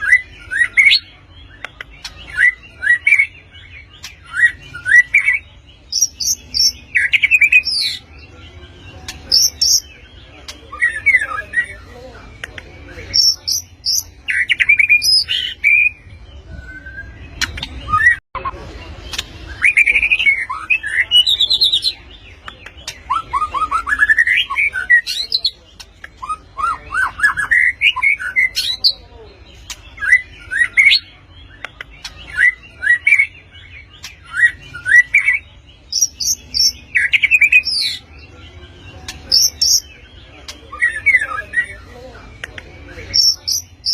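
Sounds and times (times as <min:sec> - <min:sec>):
songbird whistling song: 0:00.0 - 0:08.4, 0:12.4 - 0:29.0, 0:29.6 - 0:43.9.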